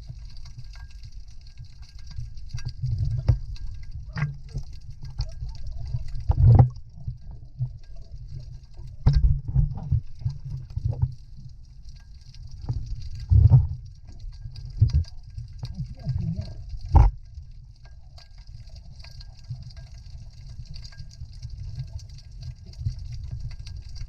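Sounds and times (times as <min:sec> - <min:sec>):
muffled water sloshing and splashing: 0:00.0 - 0:24.0.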